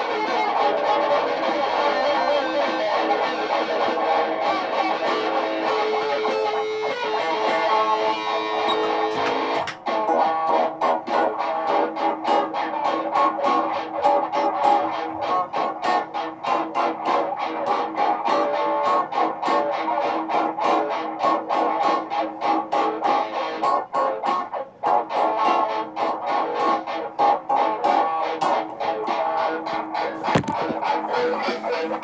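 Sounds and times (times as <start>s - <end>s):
guitar picking and strumming: 0.0s - 32.0s.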